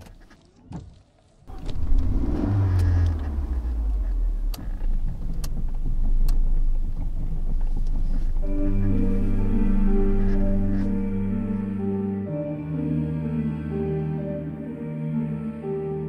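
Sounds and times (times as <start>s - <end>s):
car engine starting and idling: 1.5s - 15.9s.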